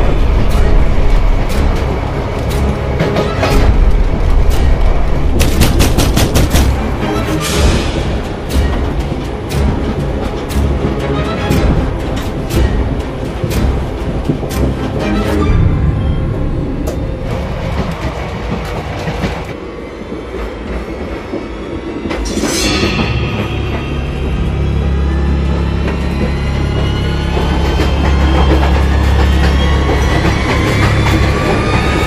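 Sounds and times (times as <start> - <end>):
suspense music: 0.0 - 32.0
train running gear rumble: 0.0 - 32.0.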